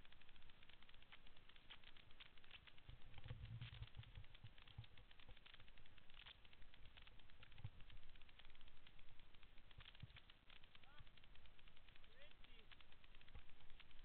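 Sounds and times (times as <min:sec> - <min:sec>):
bike tyres crackling on gravel: 0:00.0 - 0:14.0.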